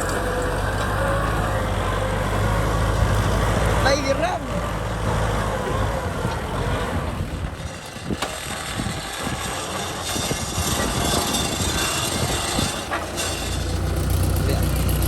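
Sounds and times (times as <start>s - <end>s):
tractor diesel engine rumbling: 0.0s - 15.0s.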